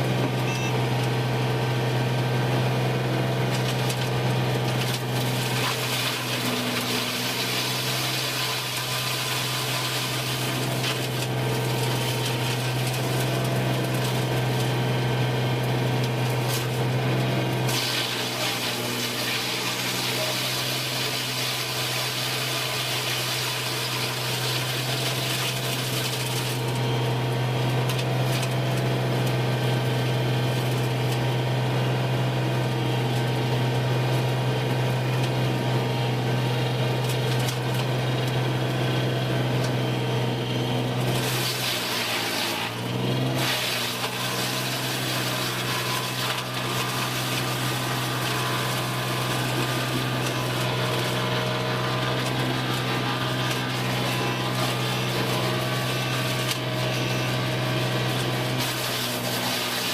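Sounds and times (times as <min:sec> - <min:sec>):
machinery humming: 0:00.0 - 0:59.9.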